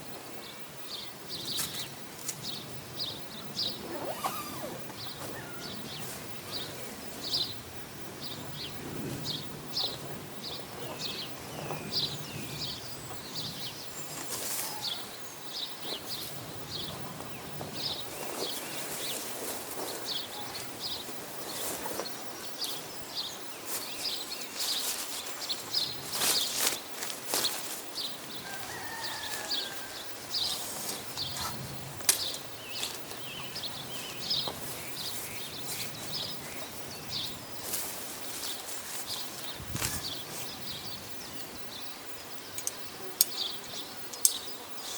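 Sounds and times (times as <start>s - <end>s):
outdoor background noise: 0.0s - 44.9s
small birds chirping: 0.0s - 44.9s.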